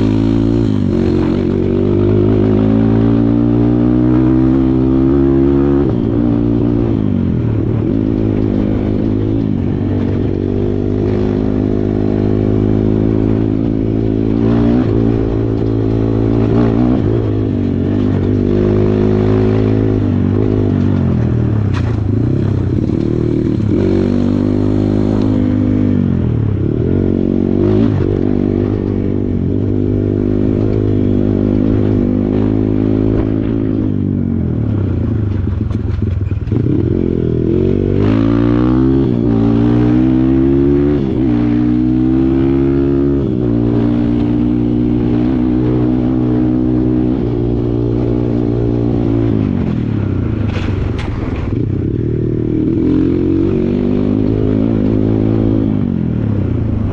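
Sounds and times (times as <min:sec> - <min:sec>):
dirt bike engine revving: 0:00.0 - 0:34.3, 0:36.4 - 0:56.9.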